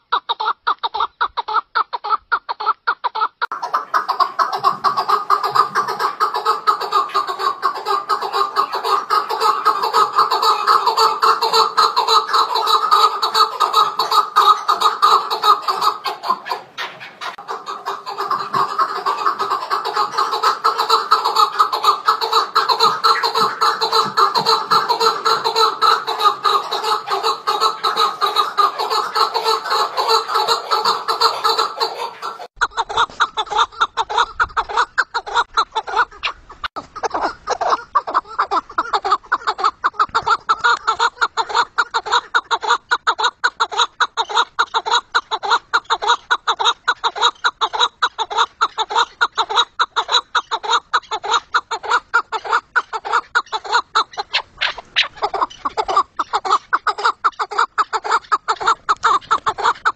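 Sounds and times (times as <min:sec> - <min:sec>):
partridges clucking: 0:00.0 - 0:33.3, 0:44.4 - 0:59.9.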